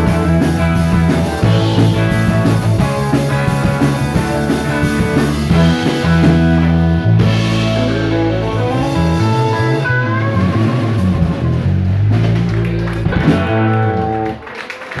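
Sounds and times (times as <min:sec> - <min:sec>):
low bass: 0:00.0 - 0:14.4
drums: 0:00.0 - 0:15.0
electric guitars: 0:00.0 - 0:15.0.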